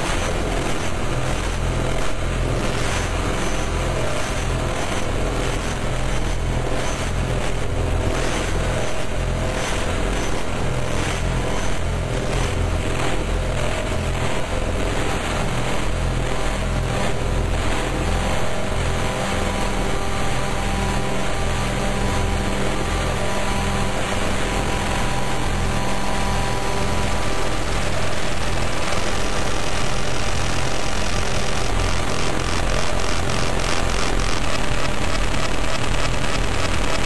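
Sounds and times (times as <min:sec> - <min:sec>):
low stuttering drone: 0:00.0 - 0:37.0.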